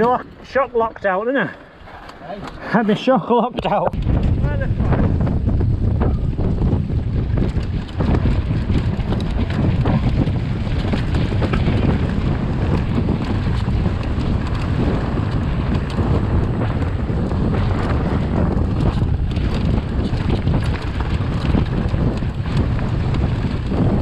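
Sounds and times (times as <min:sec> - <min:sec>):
bike clicks and rattles: 0:00.0 - 0:03.1, 0:03.9 - 0:24.0
wind buffeting microphone: 0:03.6 - 0:24.0.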